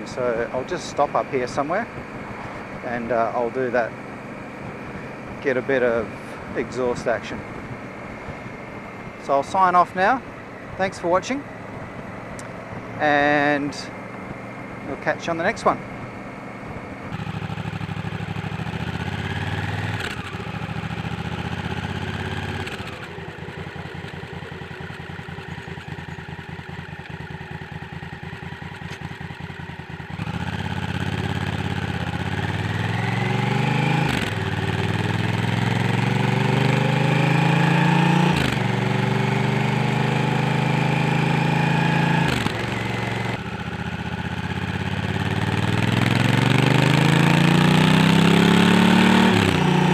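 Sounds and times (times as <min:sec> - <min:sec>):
motorcycle engine and exhaust: 0:00.0 - 0:49.9.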